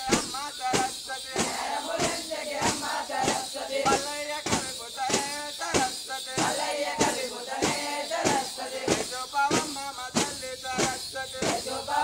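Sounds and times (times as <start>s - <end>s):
folk drums beating: 0.0s - 12.0s
voices singing: 0.0s - 12.0s.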